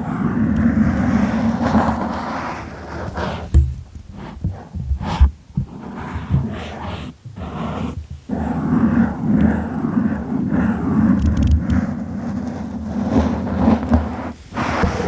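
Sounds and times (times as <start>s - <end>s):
scratchy rubbing: 0.0s - 15.0s.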